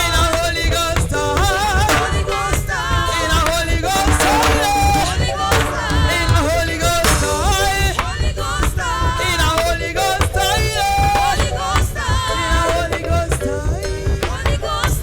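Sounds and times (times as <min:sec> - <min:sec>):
live reggae band music: 0:00.0 - 0:15.0.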